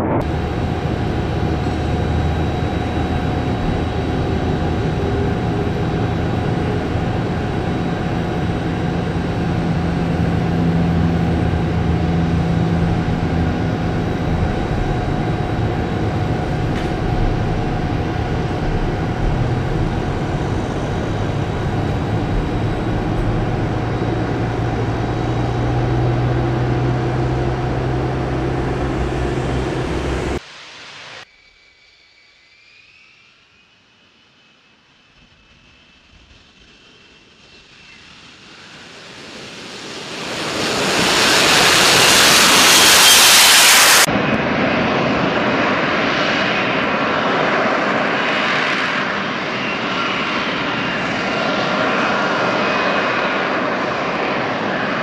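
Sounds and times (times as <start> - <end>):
jet engine whining: 0.0 - 31.3, 34.8 - 55.0.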